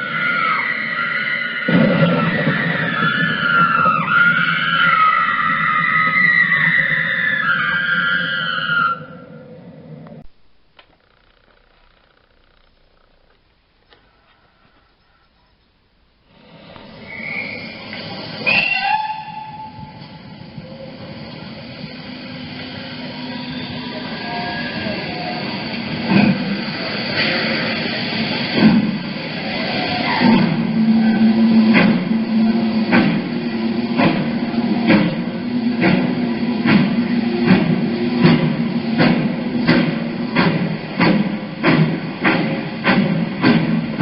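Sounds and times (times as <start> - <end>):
steam locomotive exhaust beats: 0.0 - 11.0, 16.1 - 44.0.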